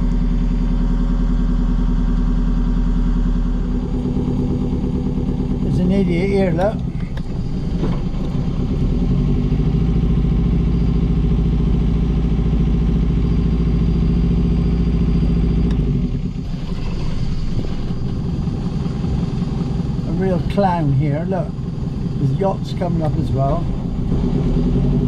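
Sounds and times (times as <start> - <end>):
boat diesel engine droning: 0.0 - 25.0.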